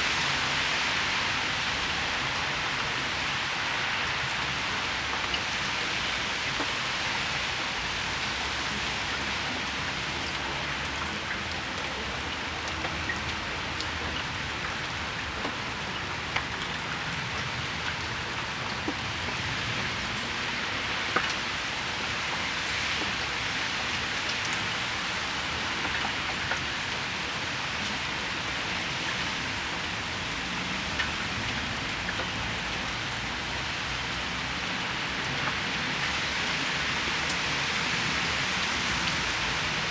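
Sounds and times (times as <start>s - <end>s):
rain falling on a patio: 0.0s - 39.9s.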